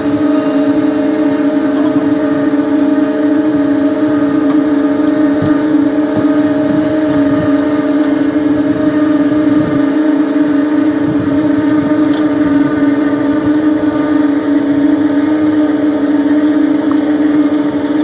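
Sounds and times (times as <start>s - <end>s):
engine droning hum: 0.0s - 18.0s.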